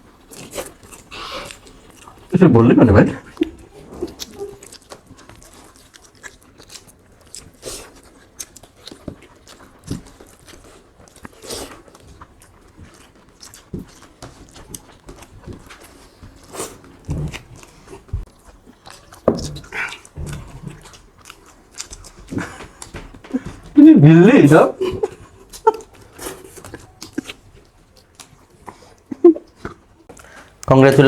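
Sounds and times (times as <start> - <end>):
chewing and mouth smacks: 0.0 - 23.8, 24.7 - 31.0.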